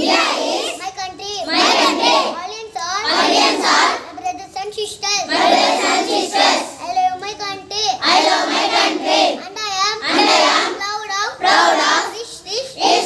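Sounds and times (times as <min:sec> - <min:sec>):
young child singing: 0:00.0 - 0:13.0.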